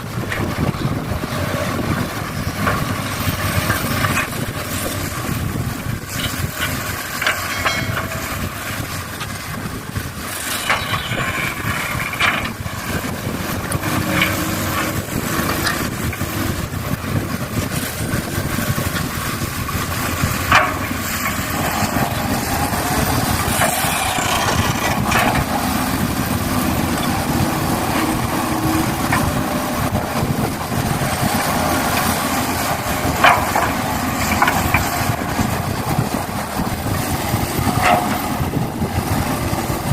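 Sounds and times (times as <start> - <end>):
excavator machine drone: 0.0 - 39.9.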